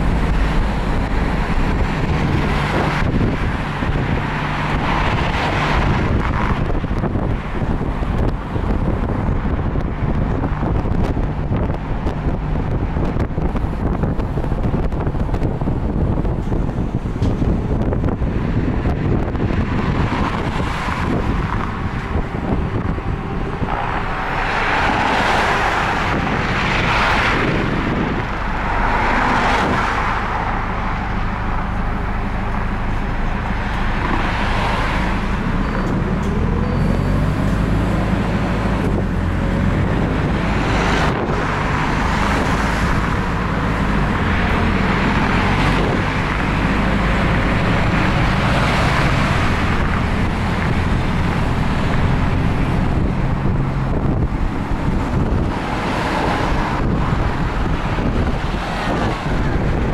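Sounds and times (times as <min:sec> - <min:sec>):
bus engine: 0:00.0 - 0:59.9
passing traffic: 0:00.0 - 0:59.9
road and tyre noise: 0:00.0 - 0:59.9.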